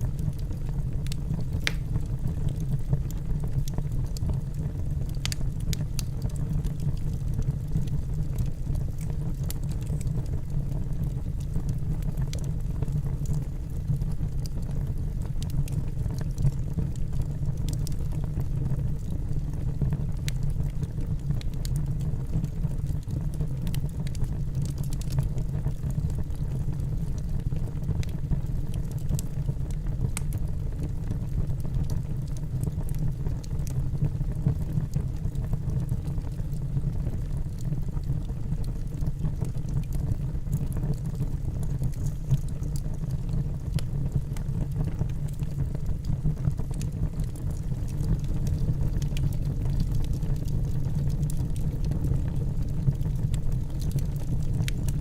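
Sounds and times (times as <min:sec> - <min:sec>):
fire rumbling: 0:00.0 - 0:55.0
logs crackling and popping: 0:00.1 - 0:55.0.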